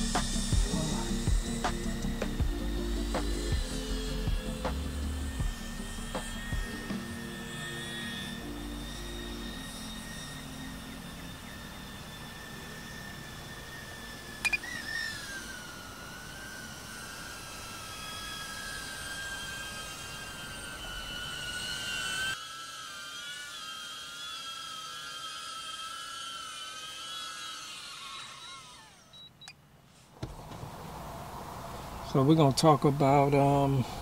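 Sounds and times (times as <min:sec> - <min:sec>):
drone propellers whining: 0:00.0 - 0:34.0.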